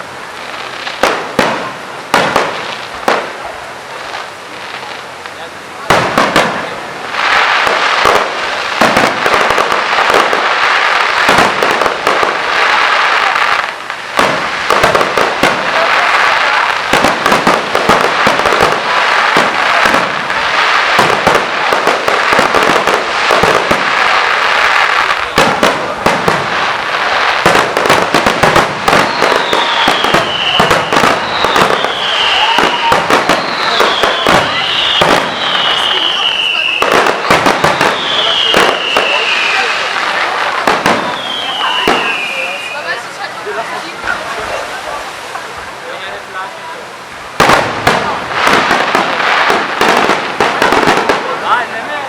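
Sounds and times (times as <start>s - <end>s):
fireworks crackling and banging: 0.0s - 52.0s
fireworks whistling: 0.0s - 52.0s.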